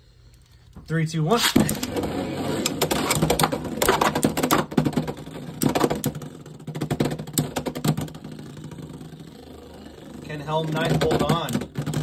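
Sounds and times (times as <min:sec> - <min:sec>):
spinning tops clacking in plastic arena: 0:01.6 - 0:12.0.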